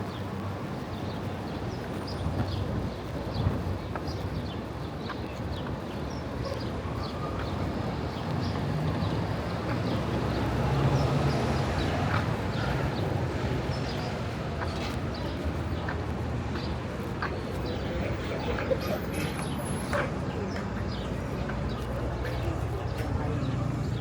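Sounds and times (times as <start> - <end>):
traffic hum: 0.0 - 24.0.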